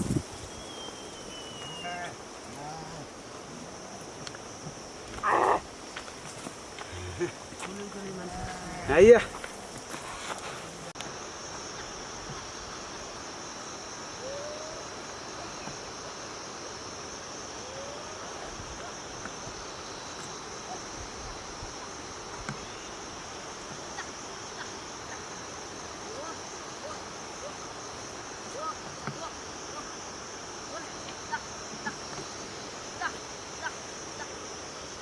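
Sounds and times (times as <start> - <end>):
background hiss: 0.0 - 35.0
insects trilling: 0.0 - 35.0.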